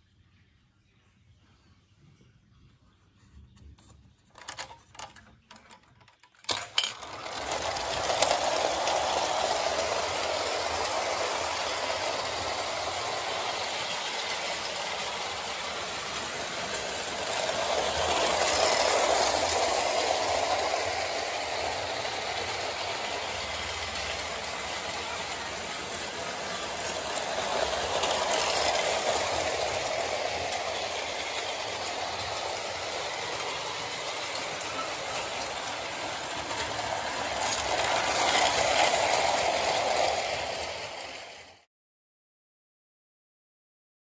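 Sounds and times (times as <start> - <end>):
toy train being handled clicks: 4.3 - 41.5
clockwork toy train running on track: 4.3 - 41.7.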